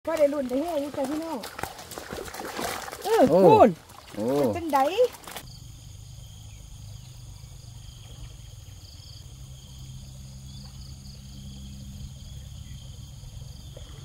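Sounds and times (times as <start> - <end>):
crickets chirping: 0.1 - 14.0.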